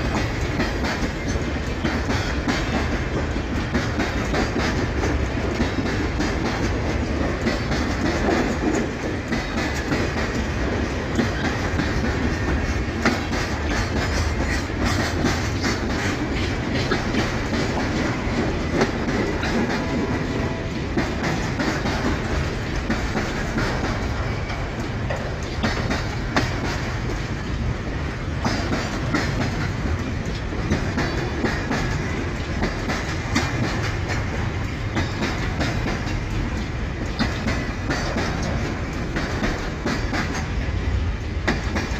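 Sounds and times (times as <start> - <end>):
freight wagons rolling past: 0.0 - 41.9
wheels clacking over rail joints: 0.0 - 41.9.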